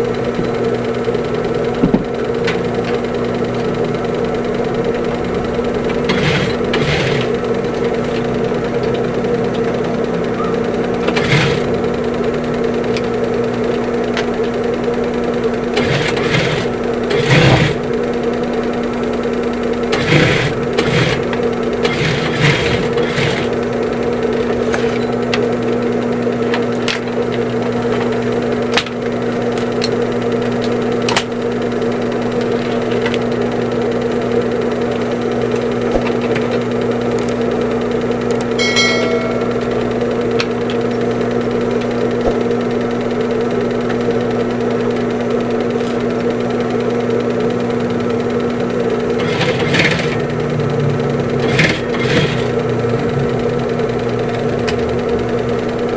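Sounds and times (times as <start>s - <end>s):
sewing machine humming: 0.0s - 55.9s.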